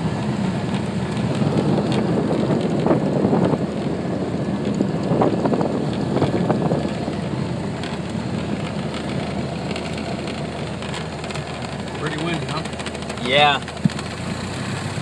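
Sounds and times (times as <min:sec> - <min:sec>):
wind buffeting microphone: 0:00.0 - 0:14.2
aircraft engine running: 0:00.0 - 0:15.0.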